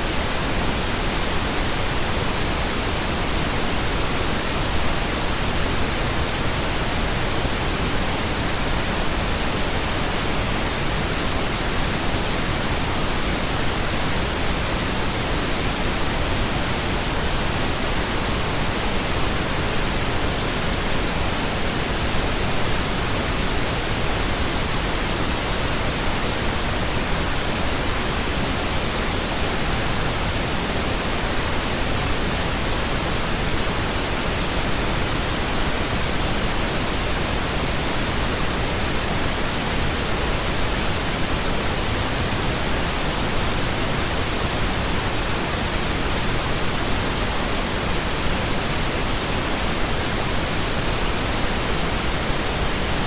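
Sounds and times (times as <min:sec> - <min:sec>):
steady pink noise hiss: 0:00.0 - 0:53.0.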